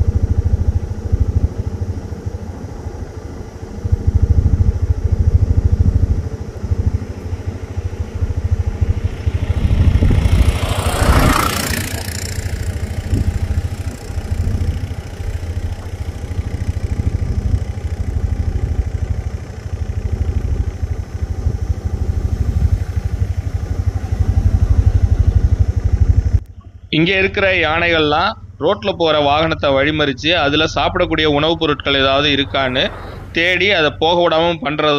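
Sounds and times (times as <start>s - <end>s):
rush of noise: 0.0s - 27.8s, 28.4s - 34.7s
auto-rickshaw engine puttering: 0.0s - 34.9s.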